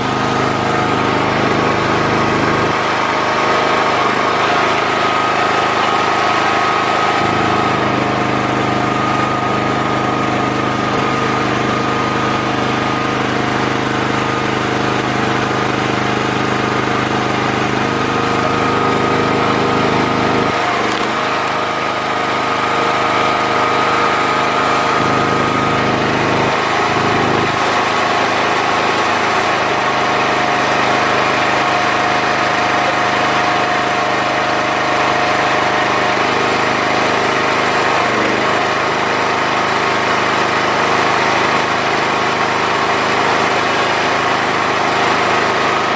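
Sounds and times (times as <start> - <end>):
log splitter engine running: 0.0 - 45.9.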